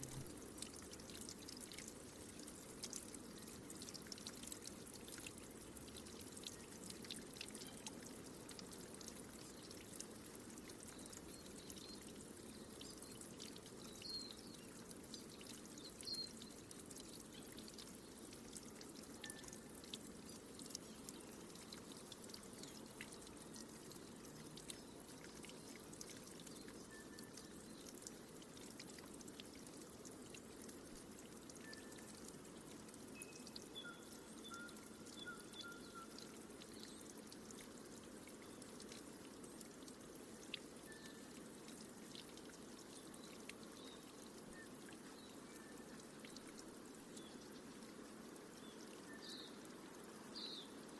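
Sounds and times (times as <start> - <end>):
water trickling and dripping: 0.0 - 50.9.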